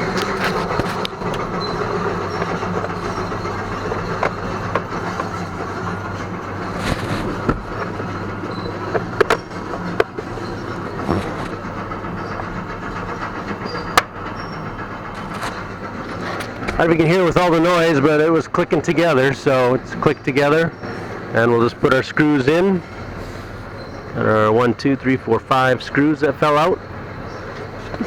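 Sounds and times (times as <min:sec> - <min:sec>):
loud background rumble: 0:00.0 - 0:28.0.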